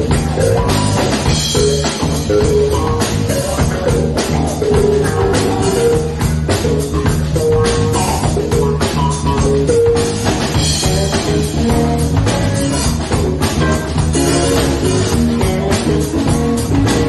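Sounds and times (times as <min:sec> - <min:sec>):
electric guitar held notes: 0:00.0 - 0:17.0
live rock band playing: 0:00.0 - 0:17.0.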